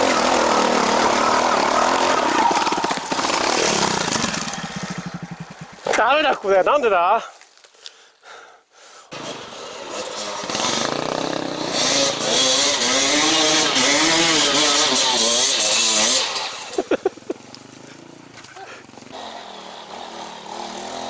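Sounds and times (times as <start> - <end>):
motorcycle engine revving: 0.0 - 6.3, 9.1 - 21.0.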